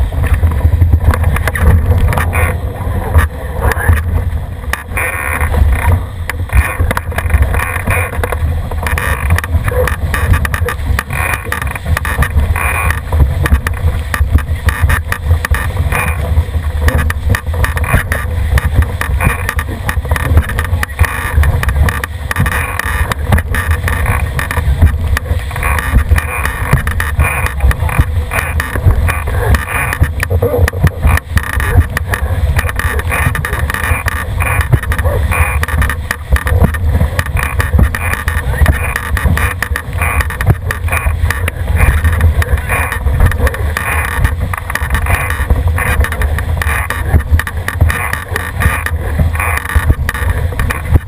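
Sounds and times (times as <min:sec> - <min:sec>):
boat hull rushing through water: 0:00.0 - 0:51.0
water slapping against hull: 0:00.0 - 0:51.0
wind buffeting microphone: 0:00.0 - 0:51.0.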